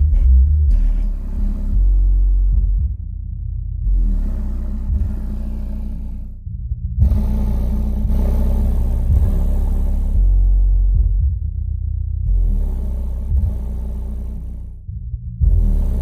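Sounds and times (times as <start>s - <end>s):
deep bass music from subwoofer: 0.0s - 16.0s.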